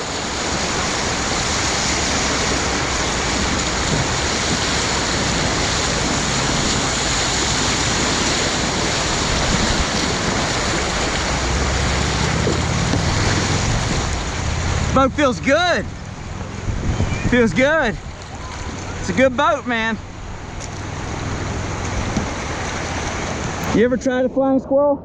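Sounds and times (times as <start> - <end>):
whitewater roaring: 0.0 - 25.0.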